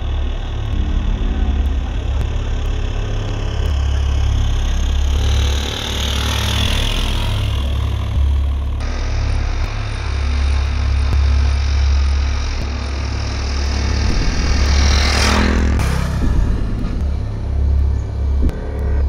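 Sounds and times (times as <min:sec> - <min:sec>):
motorcycle engine rumbling: 0:00.0 - 0:19.0
road and wind noise: 0:00.0 - 0:19.0.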